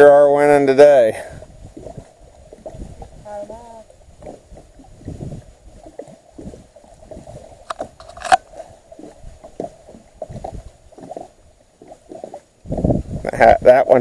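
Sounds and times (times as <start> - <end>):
waves lapping against boat hull: 0.0 - 14.0.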